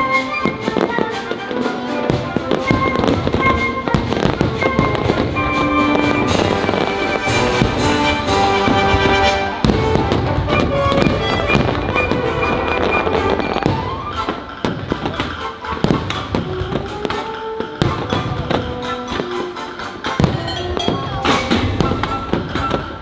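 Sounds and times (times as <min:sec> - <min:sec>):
fireworks bangs and crackles: 0:00.0 - 0:23.0
music over loudspeakers: 0:00.0 - 0:23.0.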